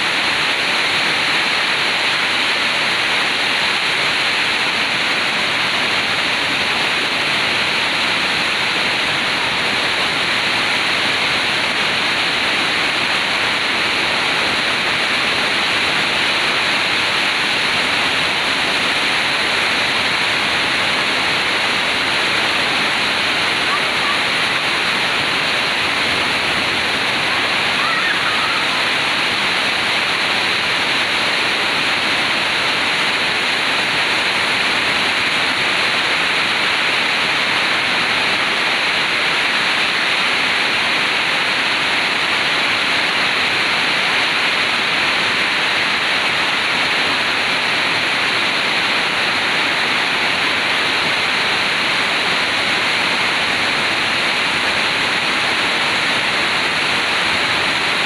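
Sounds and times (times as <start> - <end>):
heavy rain pouring: 0.0 - 58.0
water running off roofs: 0.0 - 58.0.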